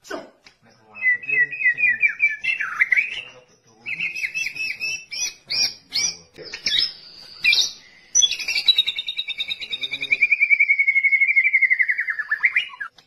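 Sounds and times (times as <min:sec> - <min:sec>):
bird singing whistled notes: 0:00.7 - 0:13.0.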